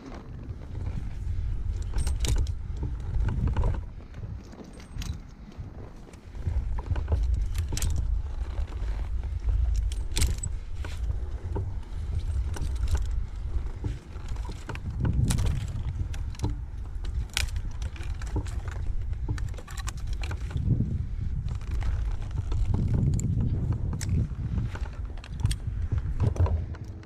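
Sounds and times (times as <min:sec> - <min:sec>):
steady low rumble: 0:00.0 - 0:27.0
light clinks and rattles: 0:00.7 - 0:27.0.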